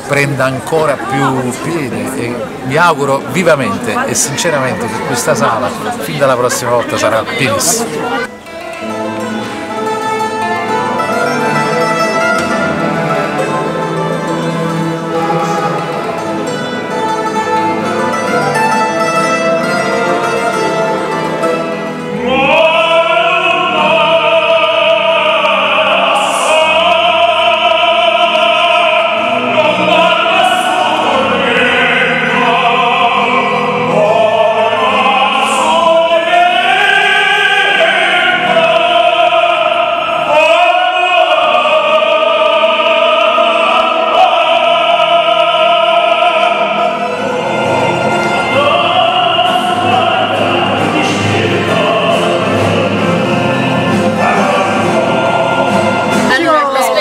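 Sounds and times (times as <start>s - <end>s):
mandolin ensemble plucking: 0.0s - 57.0s
operatic tenor voices singing: 0.0s - 57.0s.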